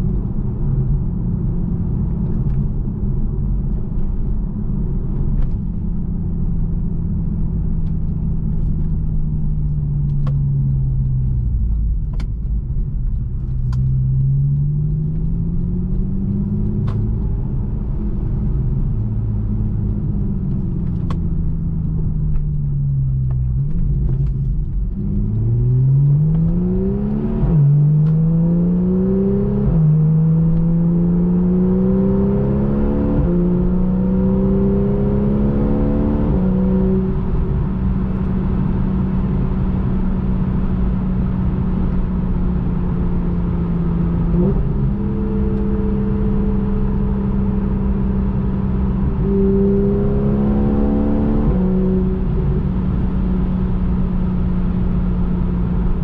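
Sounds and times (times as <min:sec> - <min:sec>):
car engine revving: 0:01.8 - 0:56.0.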